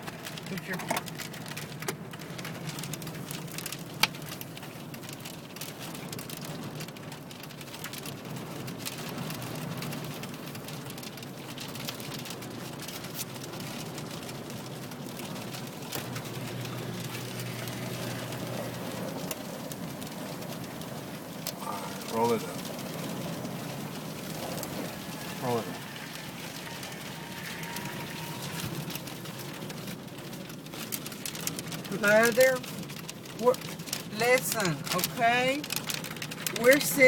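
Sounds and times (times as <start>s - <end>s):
heavy rain on a van: 0.0s - 37.0s
raindrops ticking on metal and glass: 0.0s - 37.0s.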